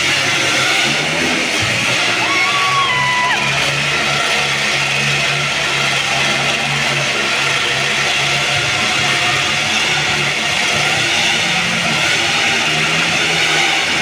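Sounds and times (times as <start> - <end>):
loud rock music with electric guitar: 0.0 - 14.0
motorcycle engines running: 0.0 - 14.0.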